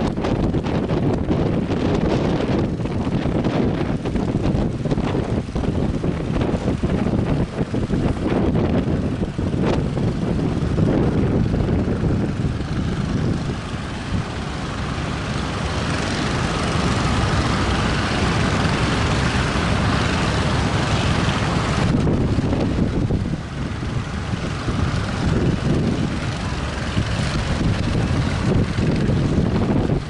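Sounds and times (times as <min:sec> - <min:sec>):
boat engine drone: 0:00.0 - 0:30.0
wind rumbling on microphone: 0:00.0 - 0:30.0.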